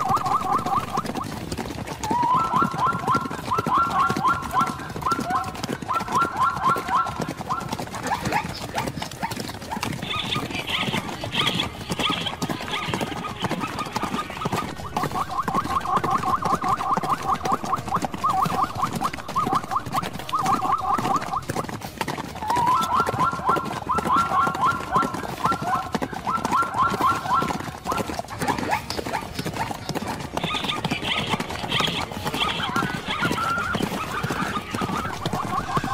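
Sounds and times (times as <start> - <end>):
animal high repeated calls: 0.0 - 1.4, 2.0 - 8.6, 10.0 - 21.7, 22.4 - 29.7, 30.4 - 35.9
zebra barking yelps: 0.0 - 21.8, 22.4 - 35.9
scuffling knocks and hooves: 0.0 - 35.9.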